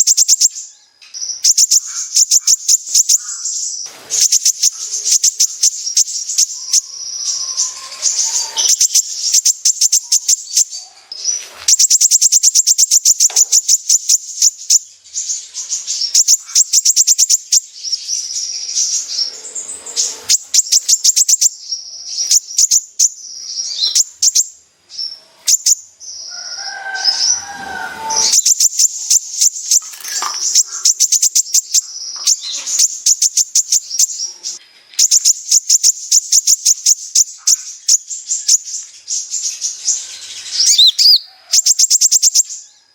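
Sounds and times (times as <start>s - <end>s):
bird singing ticking trills: 0.0s - 10.8s, 11.7s - 42.9s.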